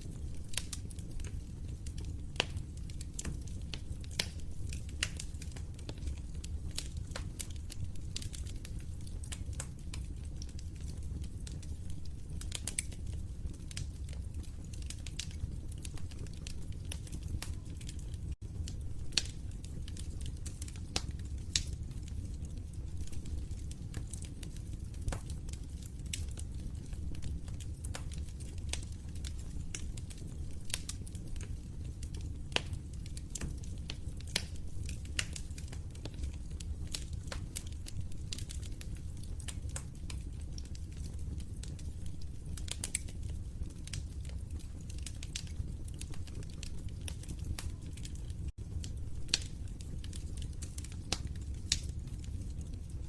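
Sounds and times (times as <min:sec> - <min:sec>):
low rumble of burning: 0:00.0 - 0:53.0
wood fire crackling: 0:00.0 - 0:53.0.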